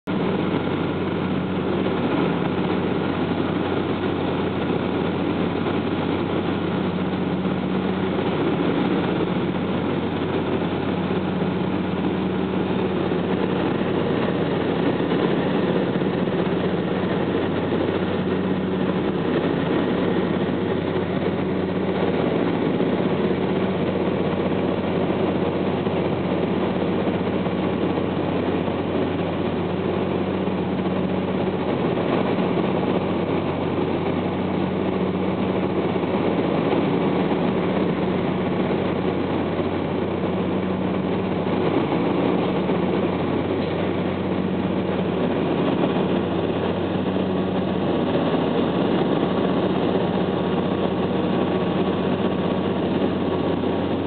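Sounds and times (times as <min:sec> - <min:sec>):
aircraft engines droning: 0:00.0 - 0:54.0
low hum: 0:00.0 - 0:54.0.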